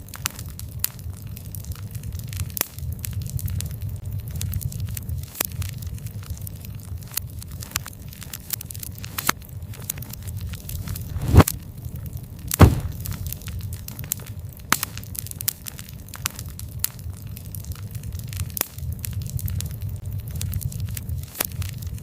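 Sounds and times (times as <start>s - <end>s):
burning wood crackling and popping: 0.0s - 22.0s
campfire flame rumble: 0.0s - 22.0s.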